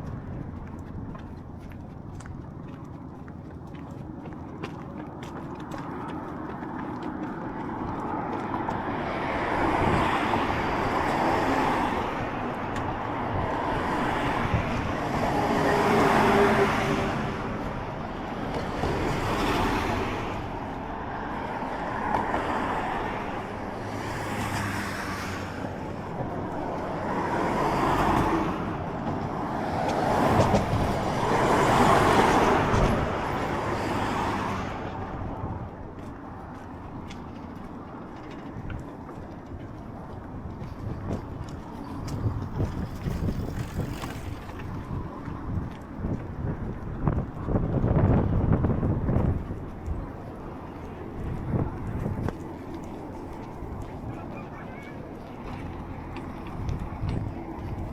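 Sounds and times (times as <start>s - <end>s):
cars and trucks passing: 0.0s - 57.9s.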